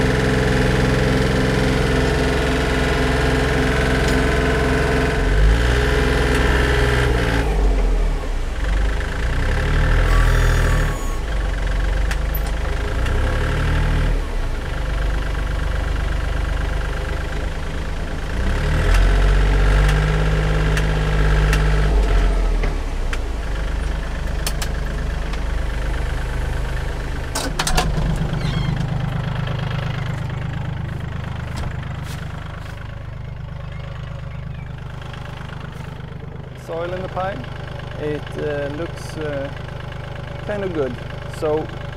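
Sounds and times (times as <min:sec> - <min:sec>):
tractor engine revving: 0:00.0 - 0:41.9.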